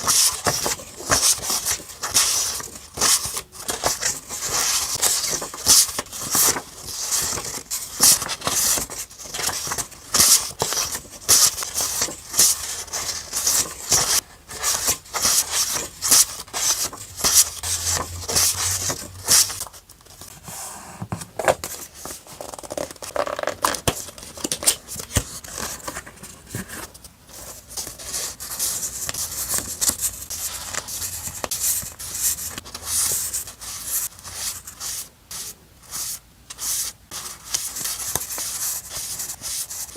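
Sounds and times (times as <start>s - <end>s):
paper rustling and crinkling: 0.0s - 36.0s.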